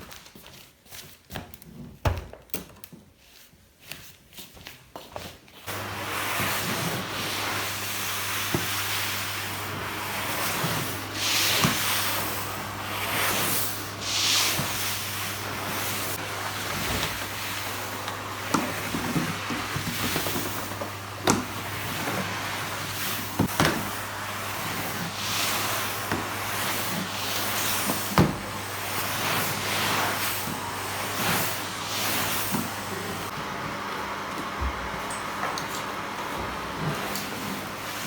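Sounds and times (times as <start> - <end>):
electric appliance humming: 5.7 - 38.0.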